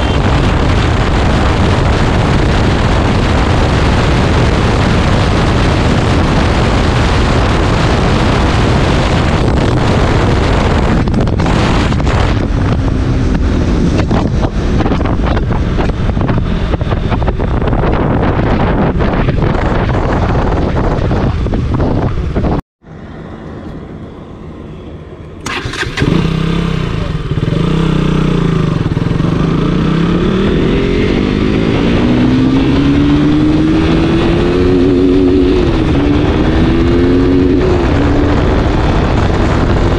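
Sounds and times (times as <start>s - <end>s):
motorcycle engine revving: 0.0s - 22.6s, 25.4s - 39.9s
wind noise: 0.0s - 22.6s, 24.9s - 39.9s.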